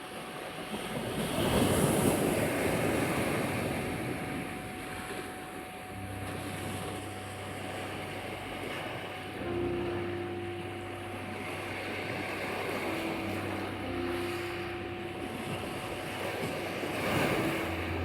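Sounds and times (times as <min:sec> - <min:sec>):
low steady hum: 0:00.0 - 0:18.0
sea waves washing on shore: 0:00.0 - 0:18.0
steady pure tone: 0:00.0 - 0:18.0.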